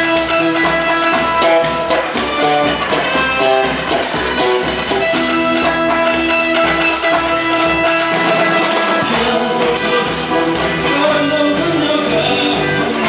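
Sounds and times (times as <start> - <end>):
drum and bass beat: 0.0 - 13.0
strummed guitars: 0.0 - 13.0.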